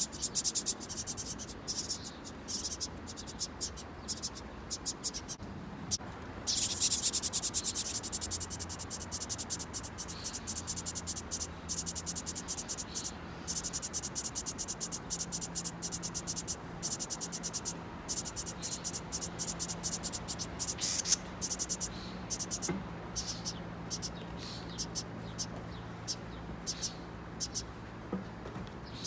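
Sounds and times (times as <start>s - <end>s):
insects chirping: 0.0s - 25.5s.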